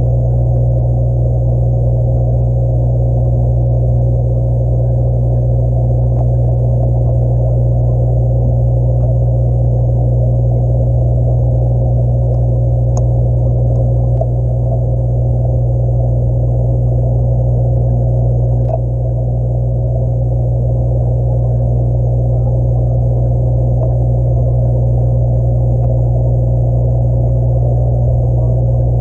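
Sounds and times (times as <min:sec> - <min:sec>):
aquarium pump hum: 0:00.0 - 0:29.0.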